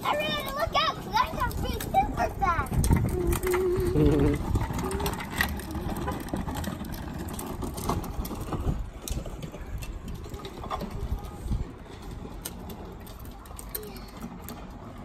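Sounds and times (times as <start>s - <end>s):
plastic toy wheels rolling on bricks: 0.0s - 15.0s.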